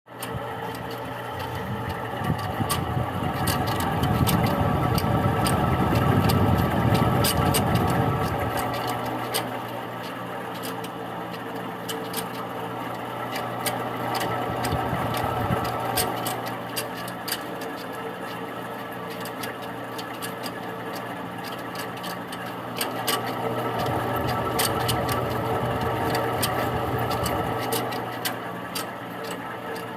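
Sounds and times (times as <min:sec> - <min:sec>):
sharp clicks and ticks: 0:00.1 - 0:12.4, 0:13.3 - 0:18.4, 0:20.0 - 0:29.9
air conditioner rumbling and humming: 0:00.1 - 0:29.9.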